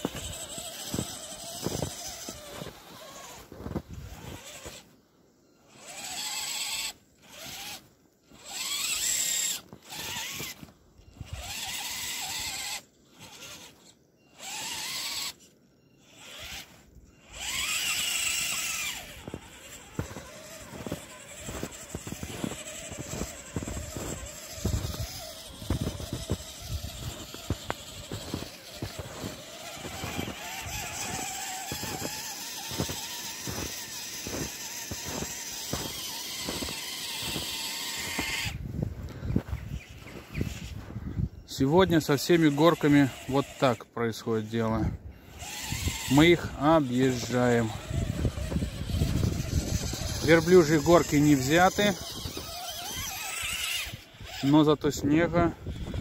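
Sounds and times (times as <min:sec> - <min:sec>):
electric motor whining in bursts: 0:00.0 - 0:05.0, 0:05.6 - 0:56.0.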